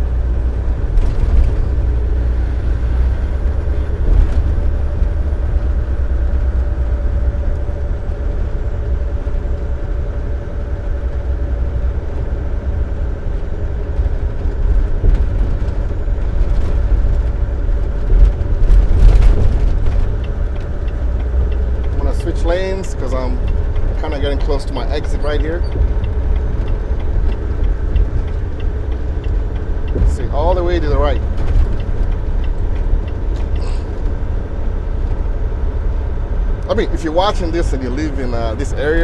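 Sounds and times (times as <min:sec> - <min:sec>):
truck engine and road drone: 0:00.0 - 0:39.0.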